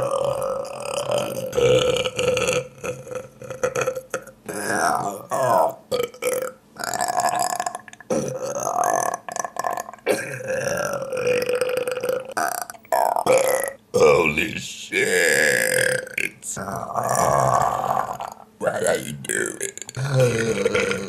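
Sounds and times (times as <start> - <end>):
person belching: 0.0 - 14.3, 15.0 - 16.3, 16.9 - 18.5, 19.4 - 21.0.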